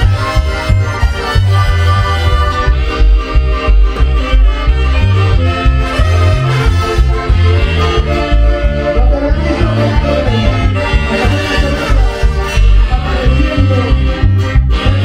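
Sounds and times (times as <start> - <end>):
heavy bass beat: 0.0 - 15.0
latin dance music with accordion: 0.0 - 15.0.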